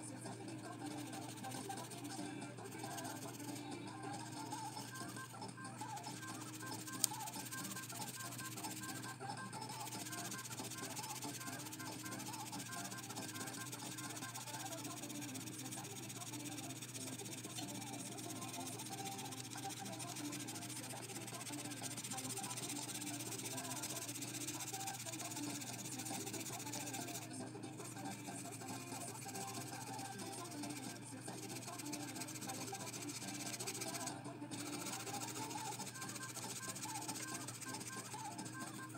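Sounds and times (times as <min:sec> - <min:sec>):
soft background music: 0:00.0 - 0:38.9
pencil scratching on paper: 0:00.8 - 0:03.6, 0:09.8 - 0:27.3, 0:27.9 - 0:38.8.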